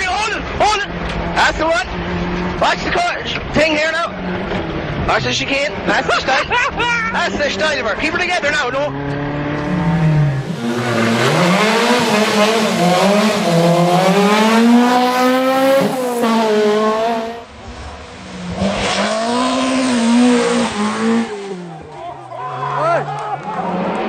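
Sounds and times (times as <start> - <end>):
rally car engine revving: 0.4 - 24.0.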